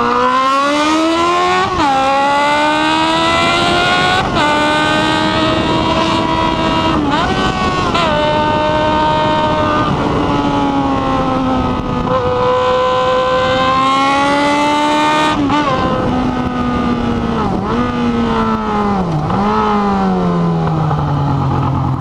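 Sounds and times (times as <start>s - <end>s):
motorcycle engine running: 1.6s - 22.0s.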